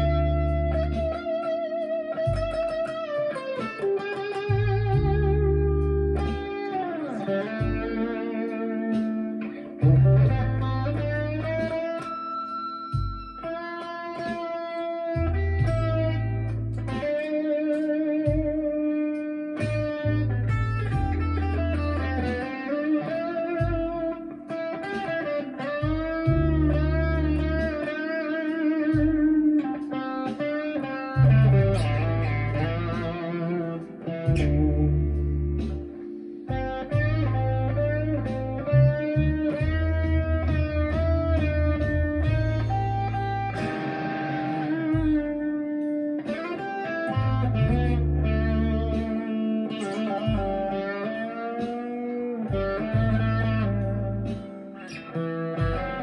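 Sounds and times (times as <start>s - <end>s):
overdriven electric guitar lead: 0.0s - 56.0s.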